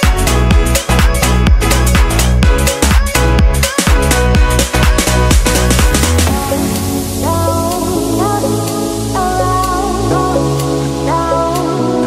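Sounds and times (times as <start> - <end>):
steady bass line: 0.0 - 12.0
synth melody: 0.0 - 12.0.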